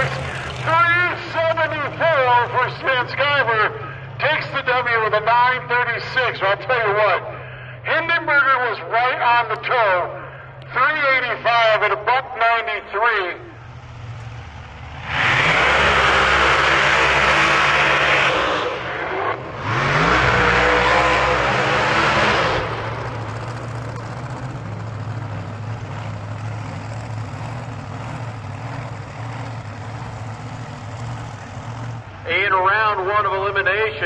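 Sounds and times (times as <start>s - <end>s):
drag car engines revving: 0.0s - 34.0s.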